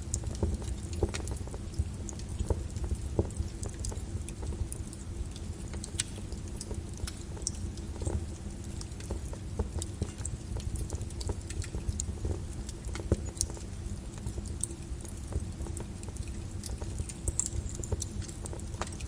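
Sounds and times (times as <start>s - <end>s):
lava crackling and clinking: 0.0s - 19.0s.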